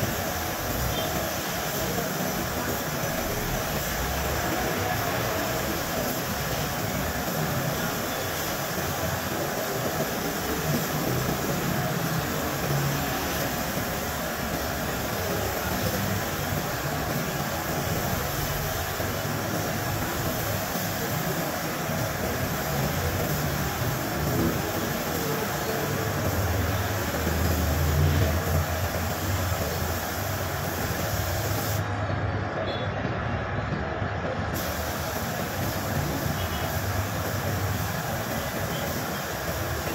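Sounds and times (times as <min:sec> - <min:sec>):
spray gun hissing: 0:00.0 - 0:31.9, 0:34.6 - 0:39.9.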